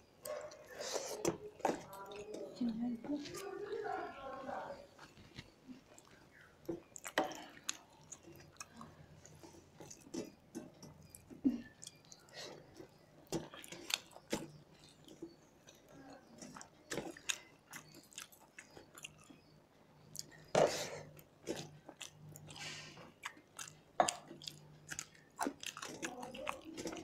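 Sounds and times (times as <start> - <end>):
chewing and mouth noises: 0.2 - 27.0.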